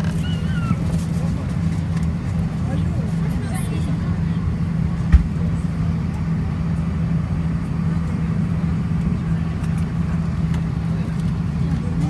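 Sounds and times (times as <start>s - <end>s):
airplane engines idling in cabin: 0.0s - 12.0s.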